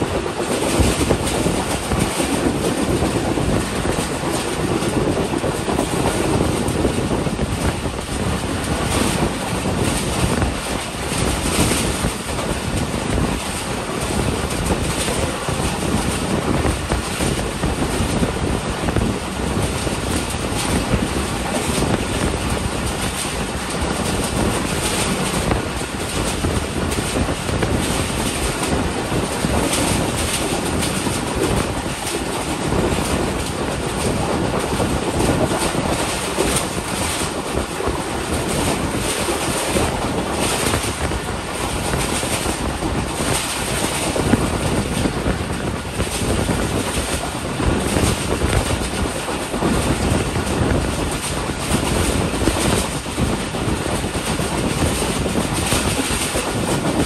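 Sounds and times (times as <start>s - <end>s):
train wheel-on-rail rush: 0.0s - 57.0s.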